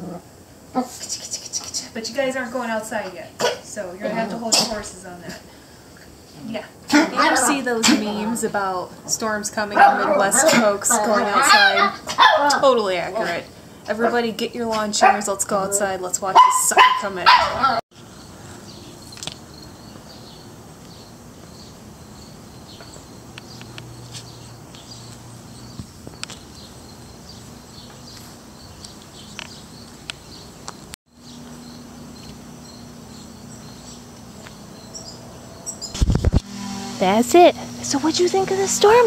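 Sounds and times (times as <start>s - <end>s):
insects chirping: 0.0s - 36.2s, 37.0s - 39.0s.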